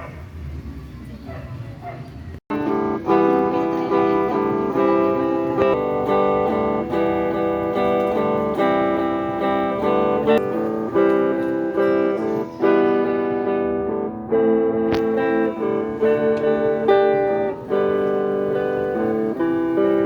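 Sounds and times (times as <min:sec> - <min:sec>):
acoustic guitar strumming chords: 0:02.5 - 0:20.0.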